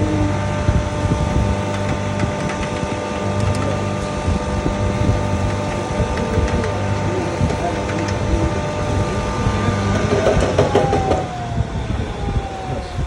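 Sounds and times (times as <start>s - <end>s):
grinding machine motor hum: 0.0s - 13.0s
steady whining tones: 0.0s - 13.0s.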